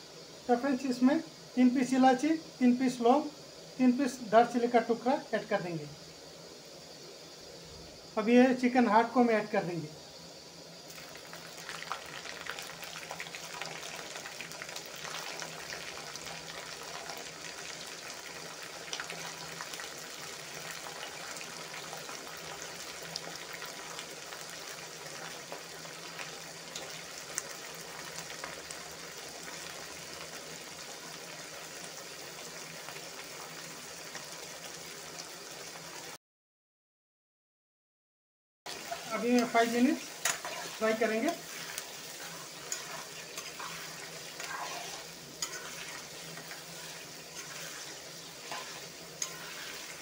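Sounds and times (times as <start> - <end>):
meat sizzling in hot oil: 0.0 - 36.2, 38.7 - 50.0.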